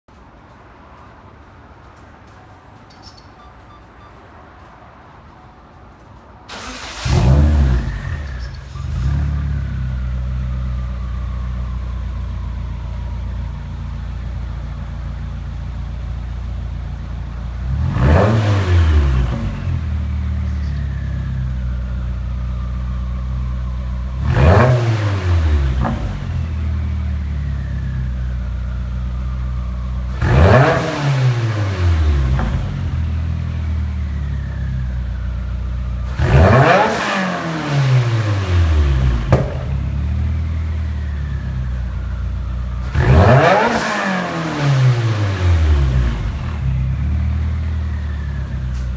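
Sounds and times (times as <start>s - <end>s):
car engine idling and revving: 6.5s - 48.9s.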